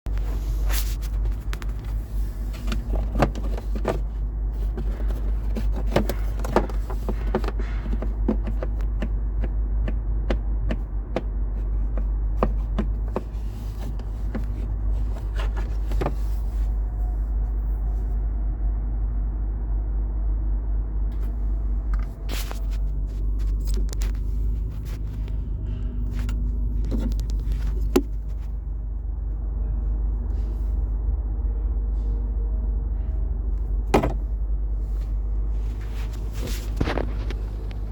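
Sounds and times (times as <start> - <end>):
low steady rumble: 0.1 - 37.9.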